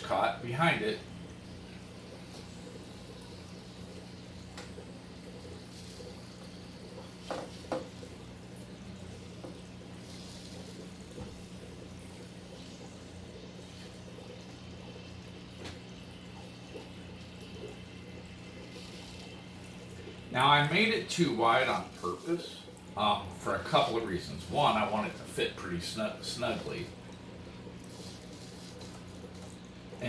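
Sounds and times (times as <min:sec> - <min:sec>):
air stone bubbling: 0:00.0 - 0:30.0
faint water sounds: 0:00.0 - 0:30.0
low steady hum: 0:00.0 - 0:30.0.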